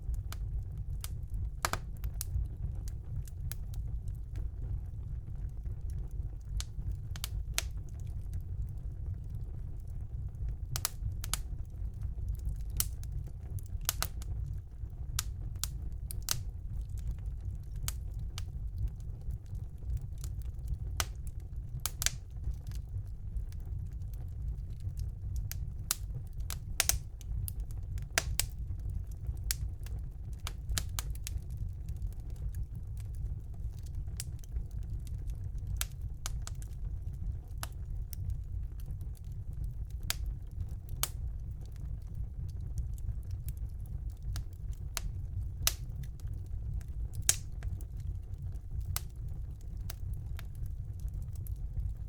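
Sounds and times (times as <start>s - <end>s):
burning logs crackling and popping: 0.0s - 52.0s
flames rumbling: 0.0s - 52.0s.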